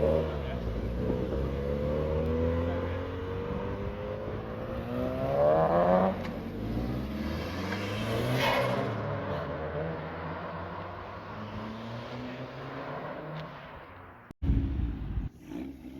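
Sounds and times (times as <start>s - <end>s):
car engine accelerating: 0.0s - 14.3s.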